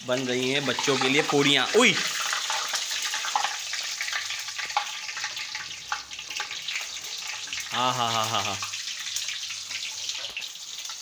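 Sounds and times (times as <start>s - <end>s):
oil sizzling with crackles: 0.0s - 11.0s.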